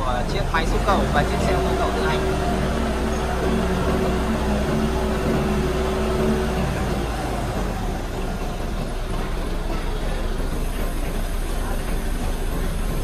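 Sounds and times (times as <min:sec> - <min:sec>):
excavator engine running: 0:00.0 - 0:13.0
rough mechanical noise: 0:00.0 - 0:13.0.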